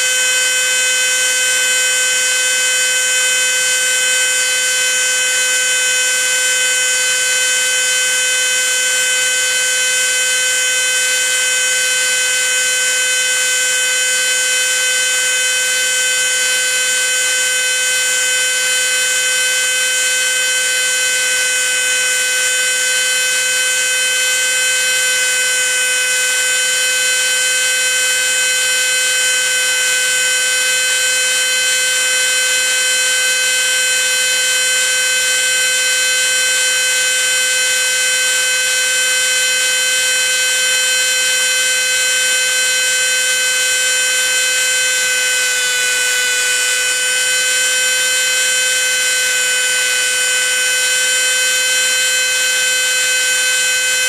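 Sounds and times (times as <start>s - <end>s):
grinder high whine: 0.0s - 54.0s.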